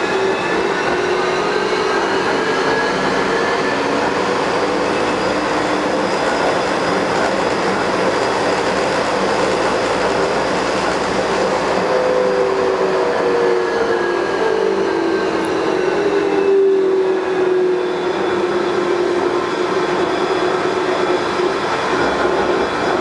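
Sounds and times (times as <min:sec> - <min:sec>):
train rolling noise: 0:00.0 - 0:23.0.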